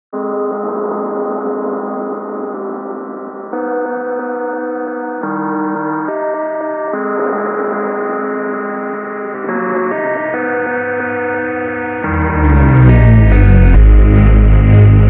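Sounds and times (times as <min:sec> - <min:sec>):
held ringing chords: 0:00.2 - 0:15.0.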